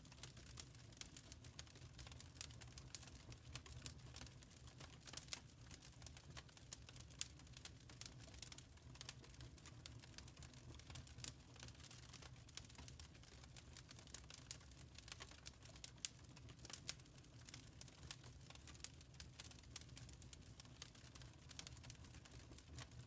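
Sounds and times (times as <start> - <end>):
faint fireplace fire crackling: 0.0 - 23.0.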